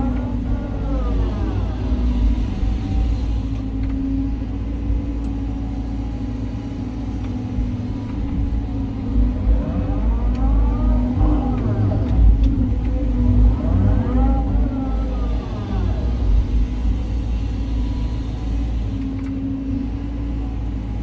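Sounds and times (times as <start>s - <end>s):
excavator diesel engine rumbling: 0.0s - 21.0s.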